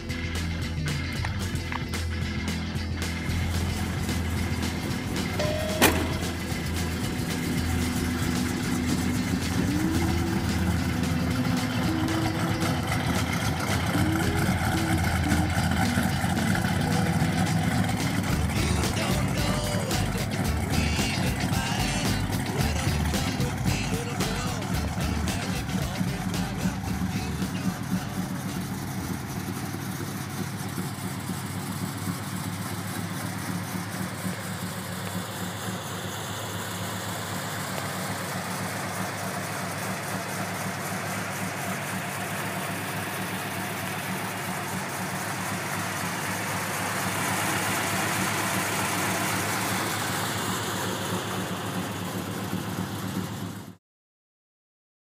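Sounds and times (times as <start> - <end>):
car engine idling: 0.0 - 53.8.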